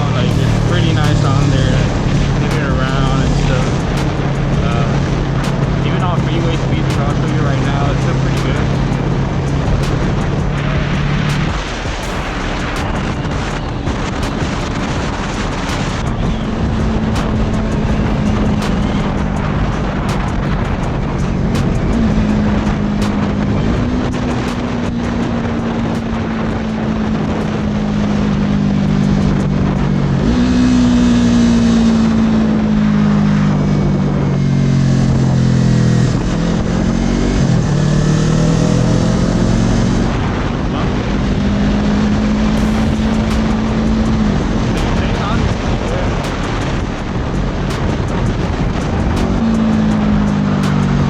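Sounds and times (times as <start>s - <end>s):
wind noise: 0.0s - 51.0s.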